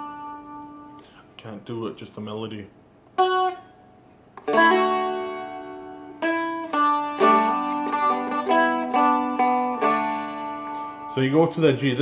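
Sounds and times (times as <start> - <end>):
plucked string melody: 0.0 - 1.1, 3.2 - 12.0.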